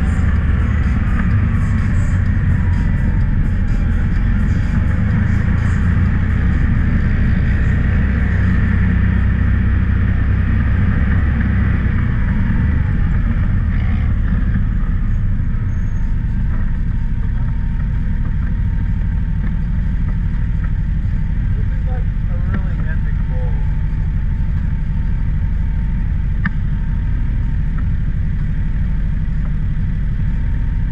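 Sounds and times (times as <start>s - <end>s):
engine running on sand: 0.0s - 30.9s.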